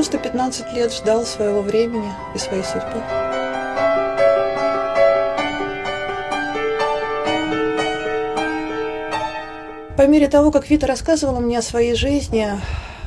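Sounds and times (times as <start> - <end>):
slow piano melody: 0.0 - 10.7.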